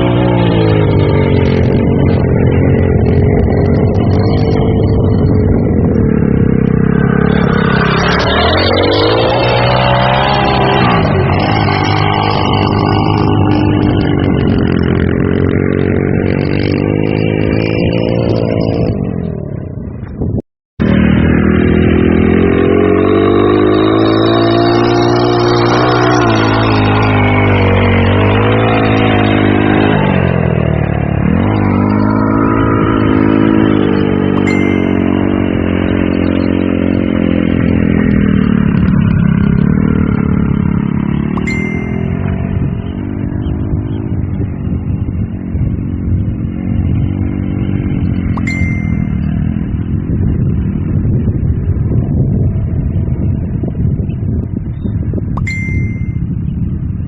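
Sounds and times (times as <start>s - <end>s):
small engine revving: 0.0s - 19.8s, 20.8s - 51.1s.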